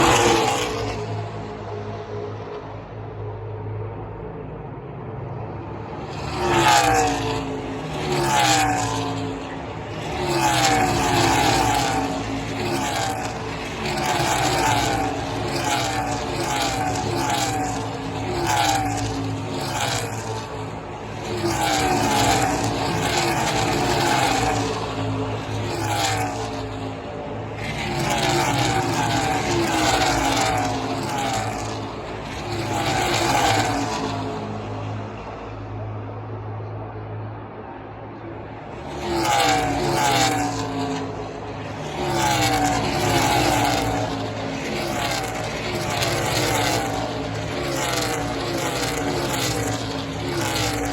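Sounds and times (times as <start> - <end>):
race cars passing: 0.0 - 50.9.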